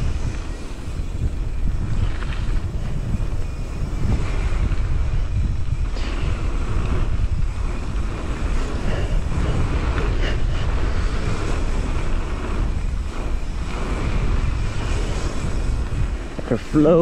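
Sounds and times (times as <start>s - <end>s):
bike rattling: 0.0s - 17.0s
wind buffeting microphone: 0.0s - 17.0s.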